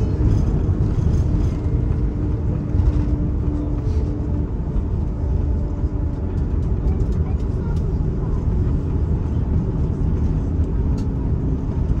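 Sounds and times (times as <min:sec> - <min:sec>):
jet engines idling rumble: 0:00.0 - 0:12.0.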